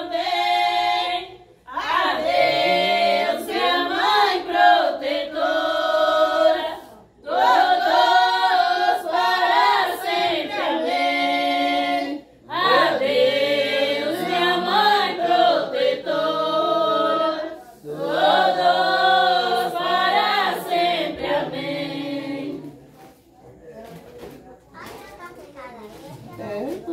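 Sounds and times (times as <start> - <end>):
women singing a hymn: 0.0 - 22.9.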